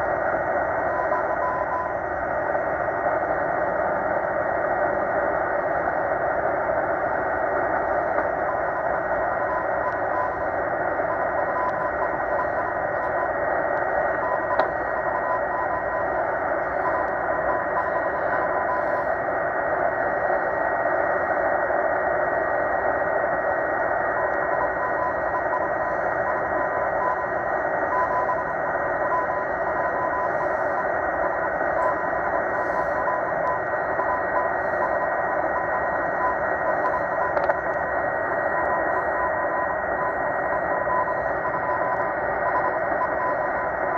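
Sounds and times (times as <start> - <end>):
radio static hiss: 0.0 - 43.9
faint morse code tone: 0.1 - 2.8, 5.5 - 21.6, 23.3 - 43.9.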